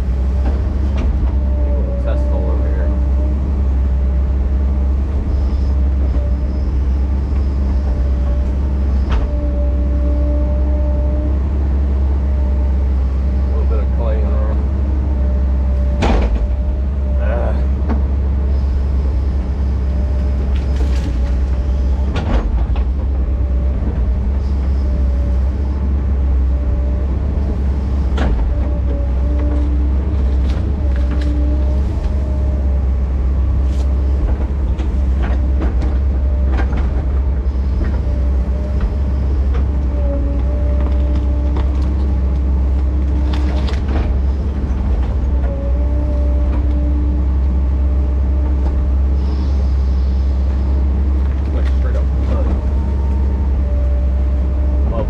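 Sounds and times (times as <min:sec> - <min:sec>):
diesel excavator engine running: 0:00.0 - 0:55.0
faint whine: 0:00.0 - 0:55.0.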